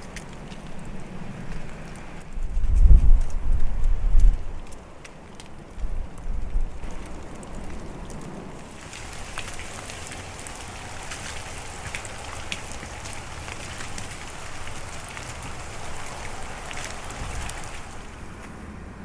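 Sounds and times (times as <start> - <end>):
rain hiss: 0.0 - 2.4, 3.2 - 19.0
raindrop ticks: 0.0 - 18.8.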